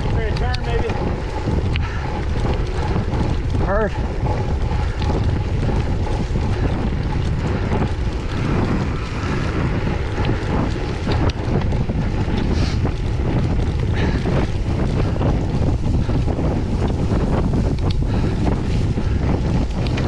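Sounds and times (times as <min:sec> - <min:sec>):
sharp ticks: 0:00.0 - 0:20.0
wind buffeting microphone: 0:00.0 - 0:20.0.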